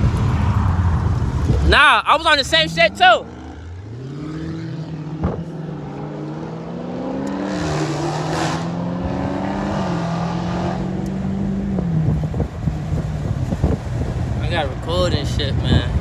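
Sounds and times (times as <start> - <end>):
car engine accelerating: 0.0 - 16.0
wind and road noise: 0.0 - 16.0.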